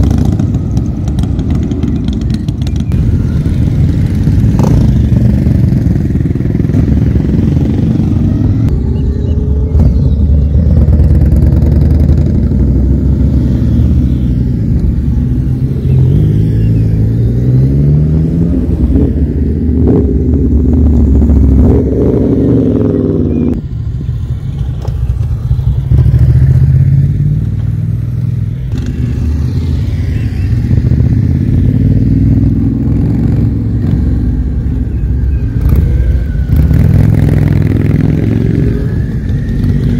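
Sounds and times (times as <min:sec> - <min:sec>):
motorcycles riding past: 0:00.0 - 0:39.9.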